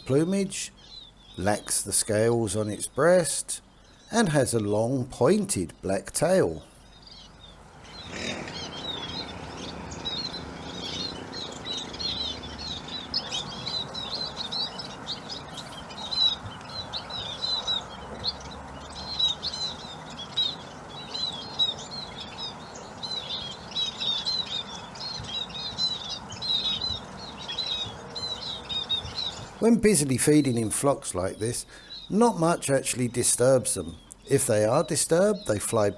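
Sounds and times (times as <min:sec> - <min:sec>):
flock of birds chirping: 0:00.0 - 0:35.9
low background noise: 0:00.0 - 0:35.9.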